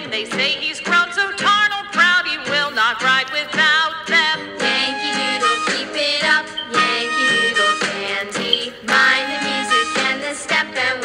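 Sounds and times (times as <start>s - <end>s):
background music with regular beat: 0.0s - 11.0s.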